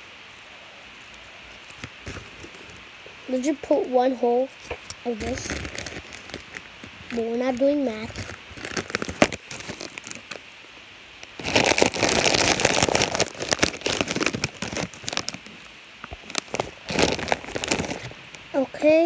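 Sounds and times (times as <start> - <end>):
chip bag crinkling: 1.0 - 3.5, 4.8 - 10.4, 11.2 - 18.5.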